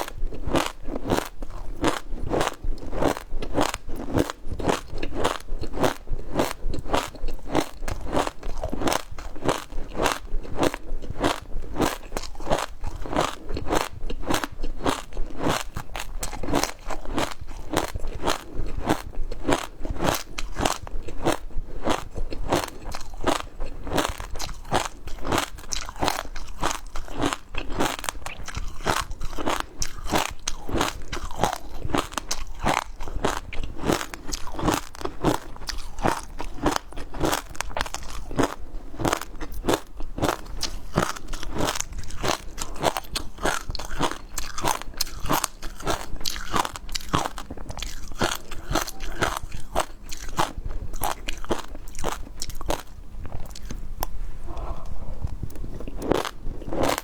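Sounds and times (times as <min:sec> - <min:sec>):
crisp crunching while chewing: 0:00.0 - 0:53.8, 0:55.7 - 0:57.0.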